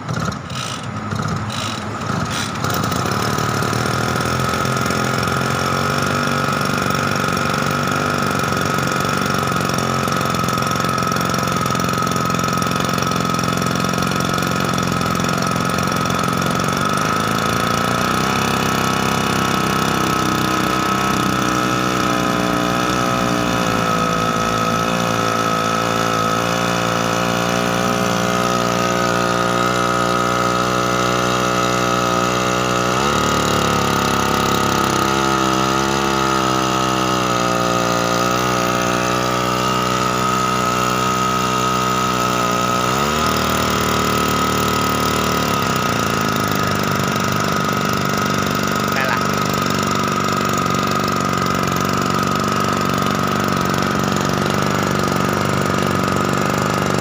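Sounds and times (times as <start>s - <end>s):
water pump engine running: 0.0s - 57.0s.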